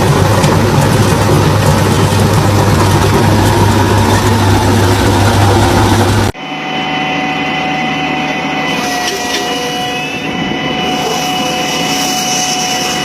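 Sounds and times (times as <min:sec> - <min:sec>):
loud machine humming: 0:00.0 - 0:13.0
machine whine with high tones: 0:00.0 - 0:13.0.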